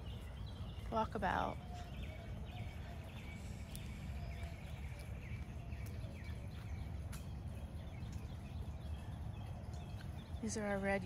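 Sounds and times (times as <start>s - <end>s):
birds chirping: 0.0s - 11.0s
low outdoor rumble: 0.0s - 11.0s.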